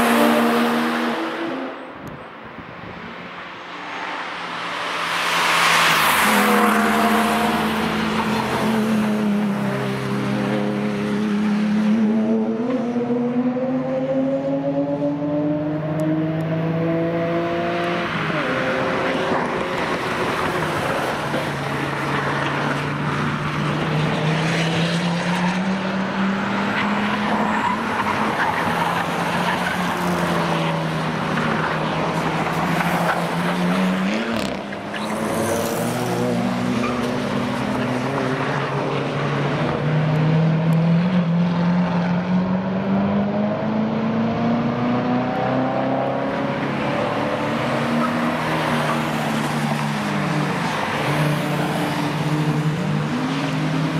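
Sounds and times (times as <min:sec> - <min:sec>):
race car engines accelerating: 0:00.0 - 0:02.1, 0:03.4 - 0:53.9
tyre and road noise: 0:00.0 - 0:53.9.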